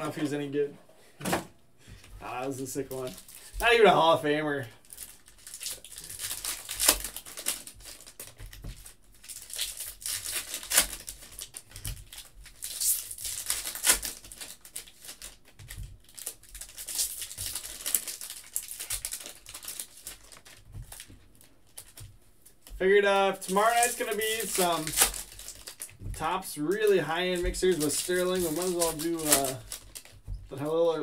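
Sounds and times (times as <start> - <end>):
foil wrappers crinkling and tearing: 2.2 - 31.0.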